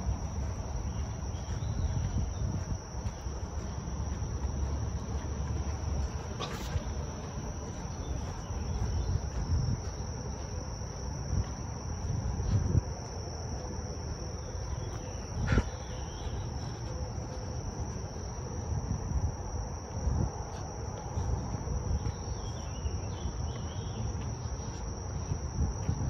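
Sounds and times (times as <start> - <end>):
insects singing: 0.0 - 26.0.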